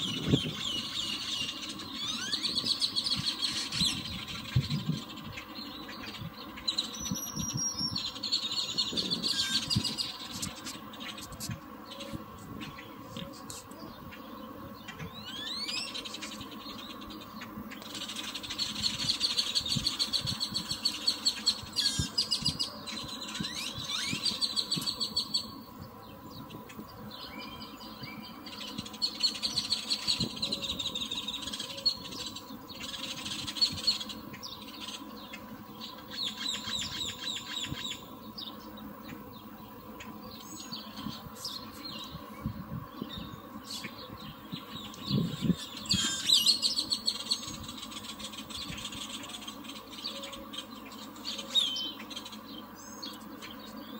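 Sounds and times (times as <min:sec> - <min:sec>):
bird chirping in rapid runs: 0:00.0 - 0:53.9.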